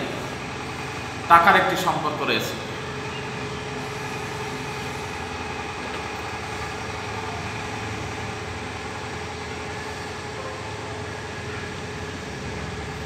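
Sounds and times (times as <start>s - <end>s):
steady mechanical hum with tones: 0.0s - 13.0s.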